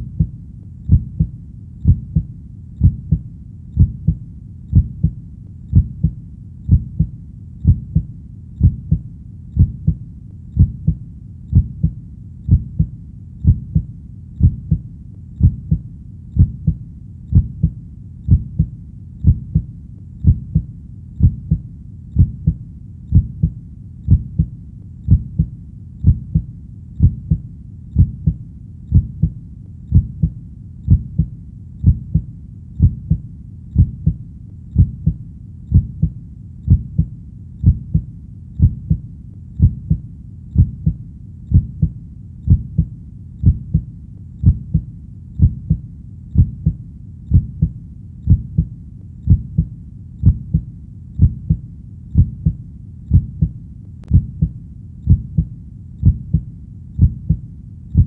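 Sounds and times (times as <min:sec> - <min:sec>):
heartbeat: 0:00.0 - 0:58.0.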